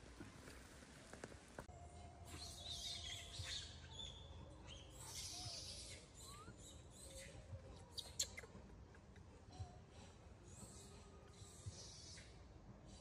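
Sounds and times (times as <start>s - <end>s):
birds chirping and twittering: 1.9s - 13.0s.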